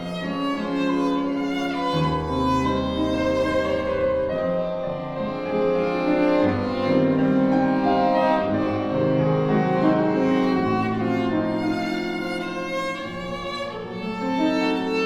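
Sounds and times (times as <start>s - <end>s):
cello: 0.0s - 15.0s
piano: 0.0s - 15.0s
violin: 0.0s - 15.0s.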